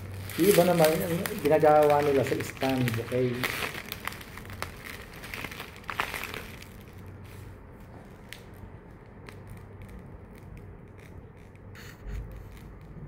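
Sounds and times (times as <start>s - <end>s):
wrapping material crinkling: 0.0s - 13.0s.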